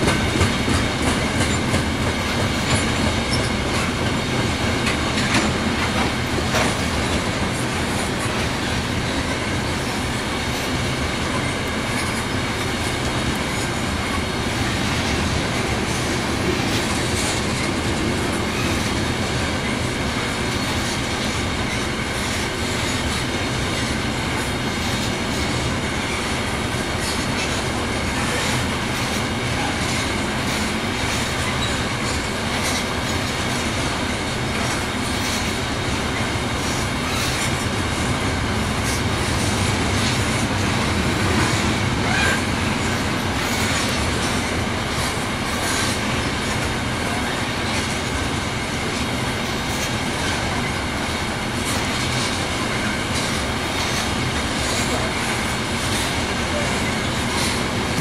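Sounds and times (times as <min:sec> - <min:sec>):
freight train rolling past: 0:00.0 - 0:58.0
rail joints clicking: 0:00.0 - 0:58.0.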